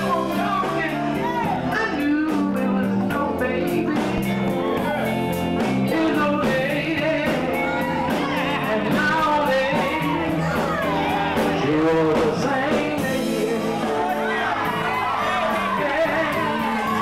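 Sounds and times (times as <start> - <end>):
man singing: 0.0 - 14.4, 15.0 - 17.0
band music with steady beat: 0.0 - 17.0.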